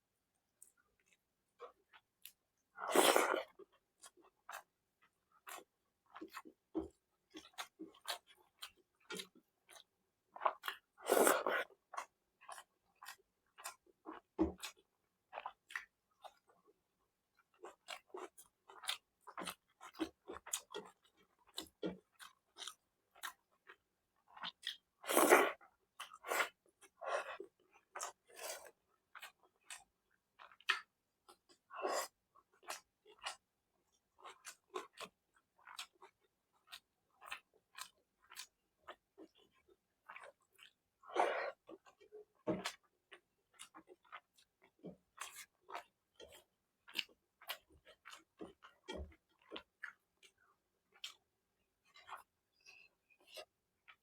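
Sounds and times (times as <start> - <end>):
person chewing food: 0.6 - 16.6, 17.3 - 54.0.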